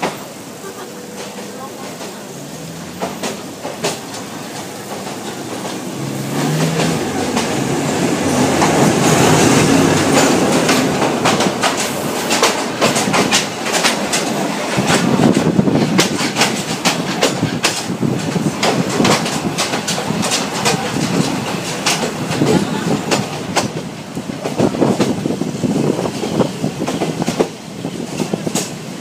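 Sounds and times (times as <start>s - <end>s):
train rumble: 0.0s - 29.0s
wheels clattering over rail joints: 0.0s - 29.0s.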